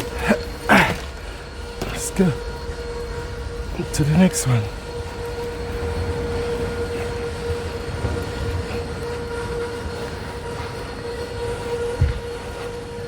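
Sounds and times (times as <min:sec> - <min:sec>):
constant whine: 0:00.0 - 0:13.0.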